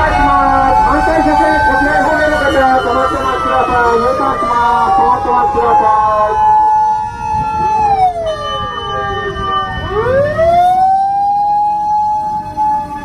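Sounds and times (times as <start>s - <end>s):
fire engine sirens wailing: 0.0s - 13.0s.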